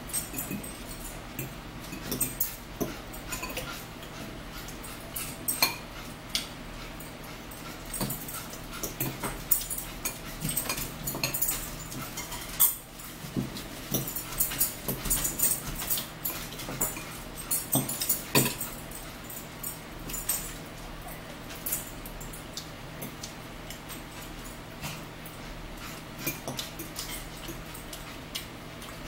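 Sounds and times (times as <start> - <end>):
chewing and crunching salad: 0.1 - 29.0.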